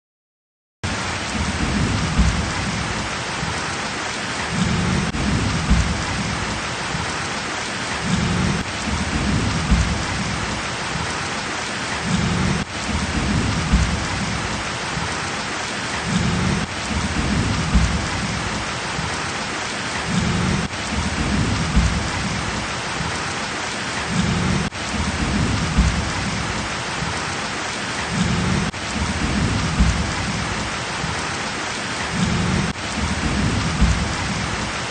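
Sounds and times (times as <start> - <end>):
heavy rain pouring: 0.8 - 34.9.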